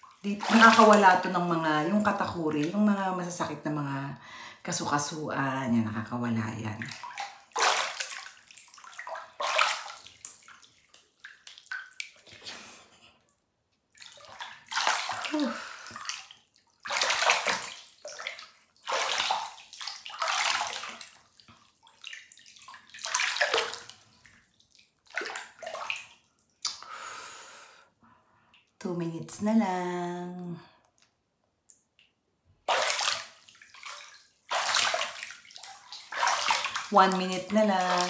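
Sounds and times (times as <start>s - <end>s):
bath water splashing: 0.0s - 4.0s, 5.9s - 26.9s, 31.9s - 38.0s.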